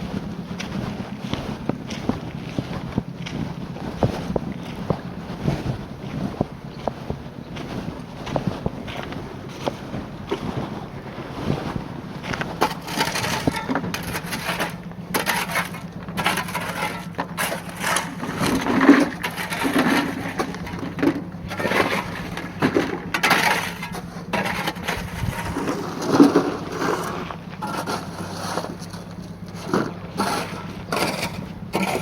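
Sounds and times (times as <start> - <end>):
scraping: 0.0 - 32.0
steady low hum: 0.0 - 32.0.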